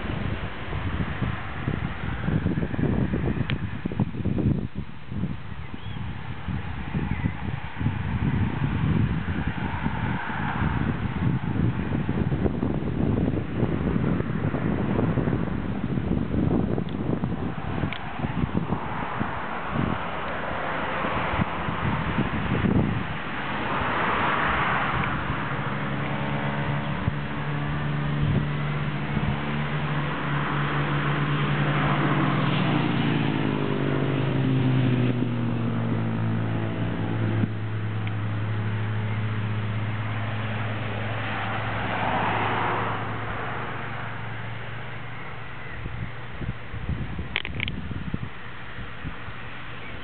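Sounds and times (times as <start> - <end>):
cars passing by: 0.0 - 50.0
vehicle engine humming: 0.0 - 50.0.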